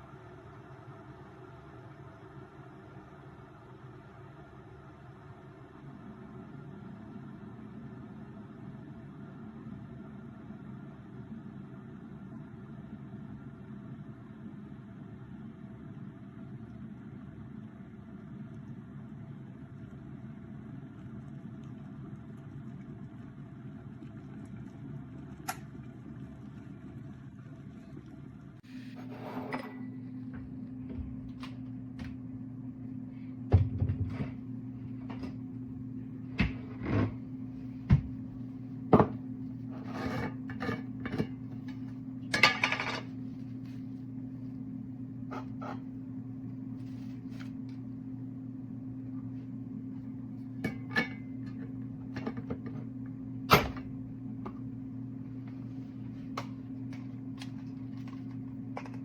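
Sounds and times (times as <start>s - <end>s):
electric kettle humming: 0.0s - 59.0s.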